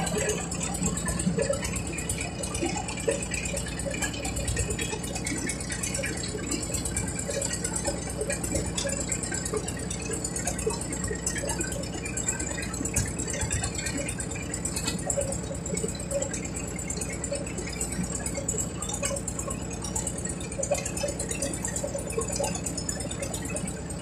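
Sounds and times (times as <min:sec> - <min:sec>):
motorboat engine running: 0:00.0 - 0:24.0.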